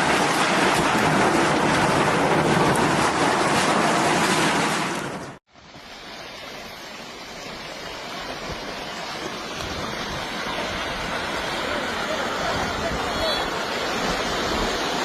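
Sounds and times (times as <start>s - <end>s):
rushing churning water: 0.0s - 15.0s.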